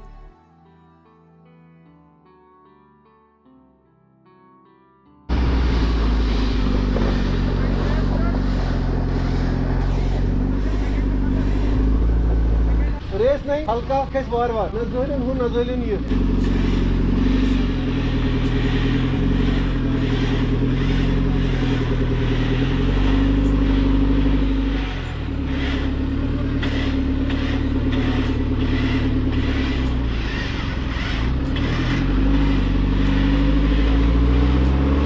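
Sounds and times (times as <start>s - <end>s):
engine revving under load: 5.3s - 35.0s.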